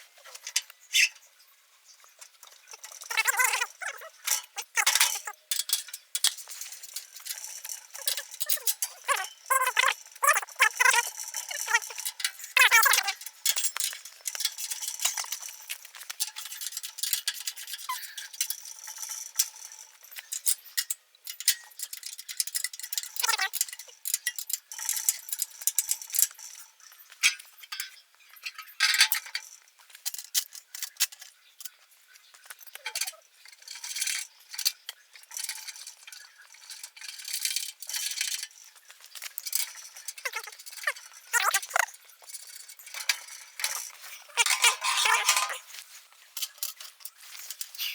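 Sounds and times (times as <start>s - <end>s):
metallic clinks and knocks of tools: 2.2s - 47.9s.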